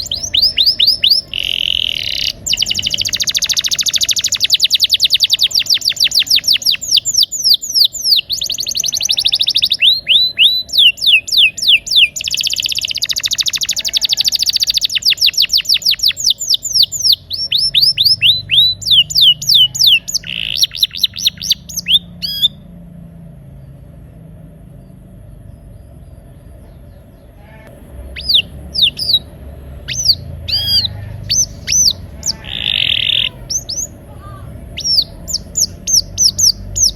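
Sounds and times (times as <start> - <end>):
canary singing trills: 0.0 - 22.8, 24.6 - 36.9
faint low hum: 0.0 - 36.9.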